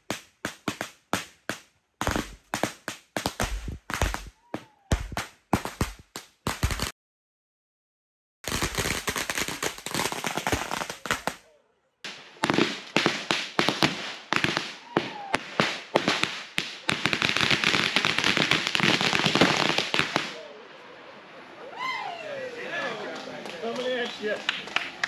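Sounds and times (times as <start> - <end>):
fireworks crackling and popping: 0.0 - 7.0, 8.4 - 20.5, 23.1 - 25.0.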